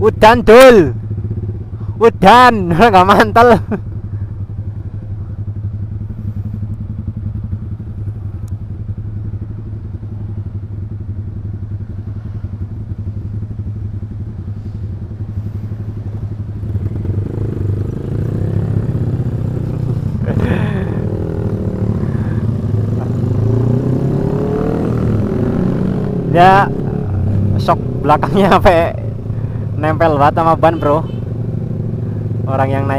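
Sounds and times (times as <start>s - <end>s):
motorcycle engine revving: 0.7s - 32.9s.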